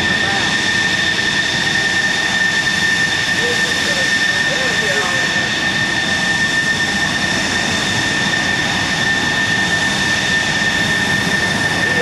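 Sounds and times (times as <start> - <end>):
jet engine running with high whine: 0.0 - 12.0.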